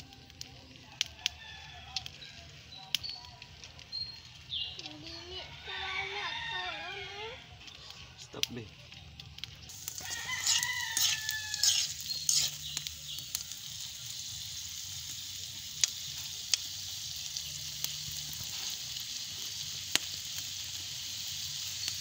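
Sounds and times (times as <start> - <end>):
grubs sizzling in hot oil: 0.0 - 22.0.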